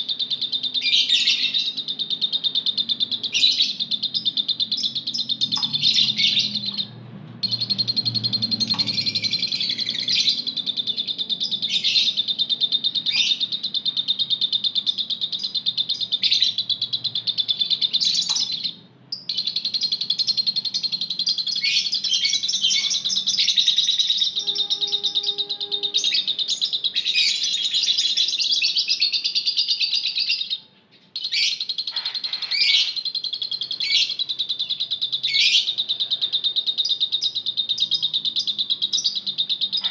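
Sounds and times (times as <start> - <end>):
lovebirds chattering and chirping: 0.0 - 39.9.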